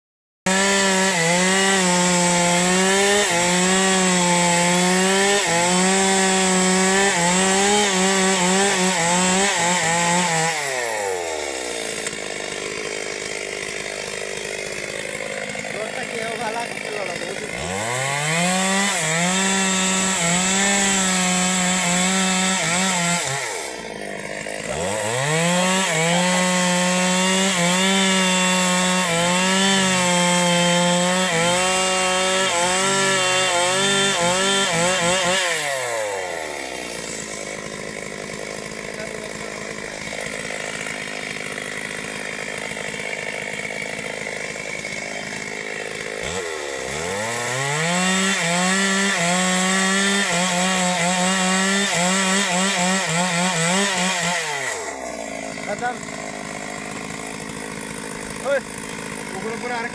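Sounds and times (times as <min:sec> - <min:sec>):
chainsaw cutting wood: 0:00.5 - 0:59.9.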